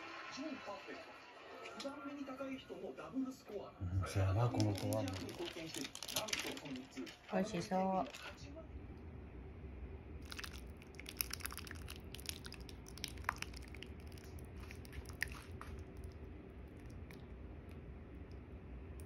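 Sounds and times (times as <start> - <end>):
low steady hum: 3.6 - 19.0.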